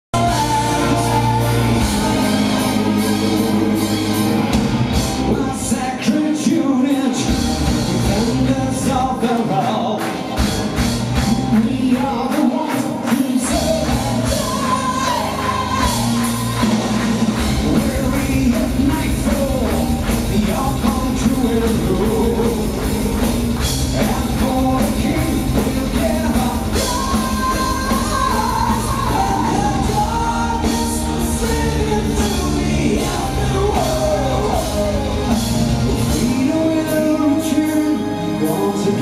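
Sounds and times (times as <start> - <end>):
man singing: 0.1 - 4.5, 5.1 - 39.0
live metal band playing: 0.2 - 39.0.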